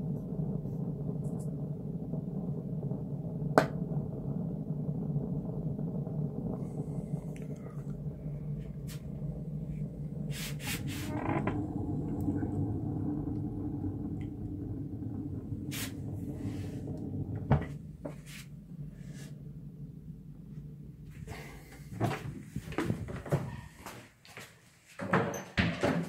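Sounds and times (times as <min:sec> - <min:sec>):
stove burning rumble: 0:00.0 - 0:24.5.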